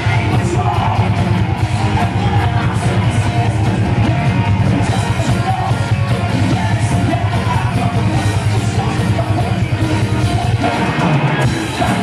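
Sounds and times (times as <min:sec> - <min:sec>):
bass: 0:00.0 - 0:12.0
distorted electric guitars: 0:00.0 - 0:12.0
drums: 0:00.0 - 0:12.0.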